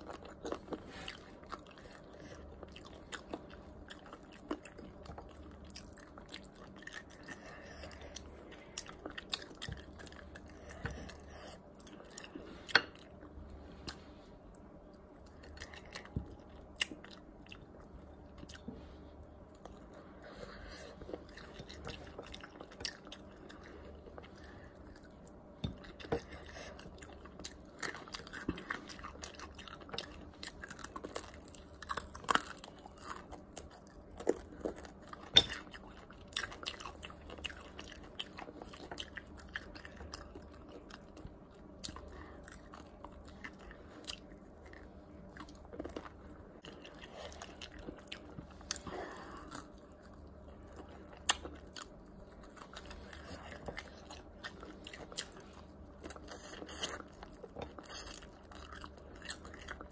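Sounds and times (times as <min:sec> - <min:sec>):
person chewing fried chicken: 0:00.0 - 0:59.9.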